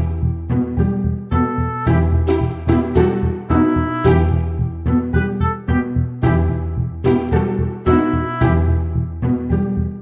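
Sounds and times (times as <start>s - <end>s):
bouncy background music: 0.0s - 10.0s.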